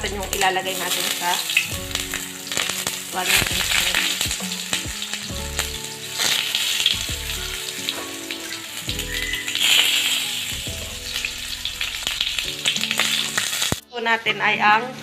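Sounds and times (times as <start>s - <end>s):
potatoes sizzling in frying pan: 0.0s - 13.9s
background music with held notes: 0.0s - 15.0s.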